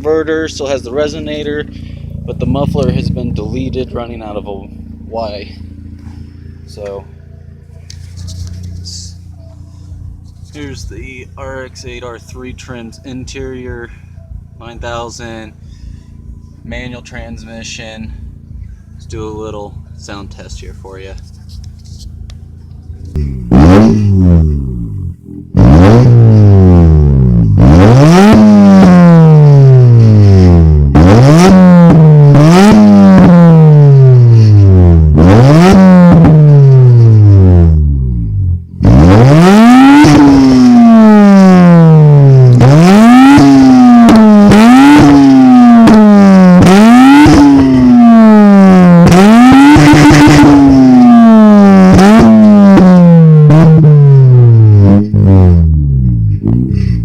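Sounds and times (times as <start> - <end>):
rotary engine revving: 0.0 - 57.0.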